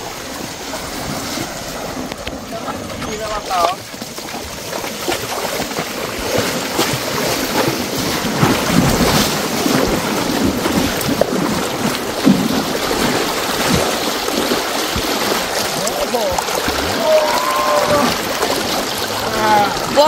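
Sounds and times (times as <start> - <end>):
water splashing and rushing: 0.0 - 20.0.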